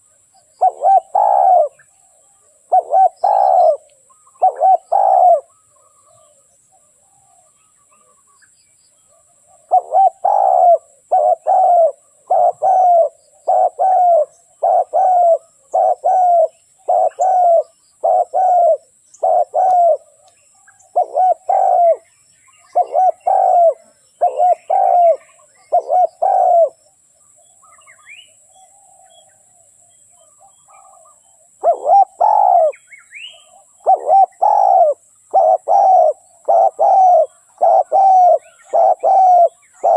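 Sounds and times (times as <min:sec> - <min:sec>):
dove cooing: 0:00.0 - 0:08.2, 0:09.1 - 0:26.9, 0:28.5 - 0:39.9.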